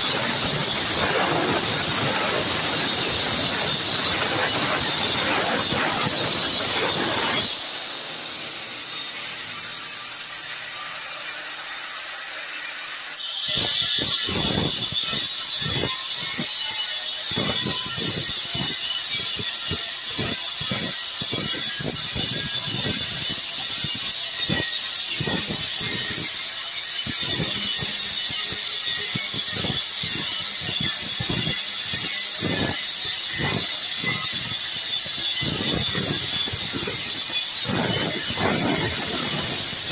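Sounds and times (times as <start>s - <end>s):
angle grinder cutting tile: 0.0s - 39.9s.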